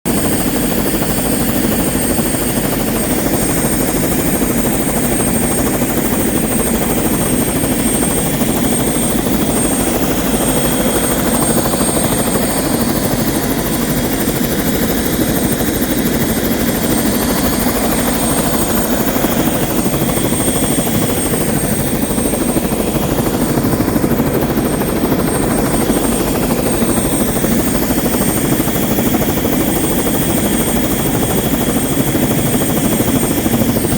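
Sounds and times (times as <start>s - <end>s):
helicopter rotor noise: 0.1s - 33.9s
high turbine whine: 0.2s - 33.8s.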